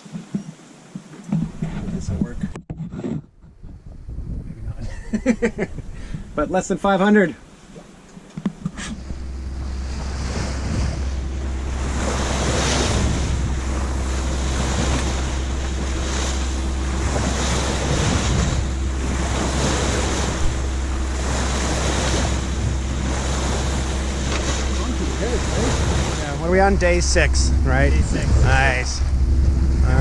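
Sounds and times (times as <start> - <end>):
wind buffeting microphone: 0.0 - 30.0
sea water rushing past boat: 5.2 - 30.0.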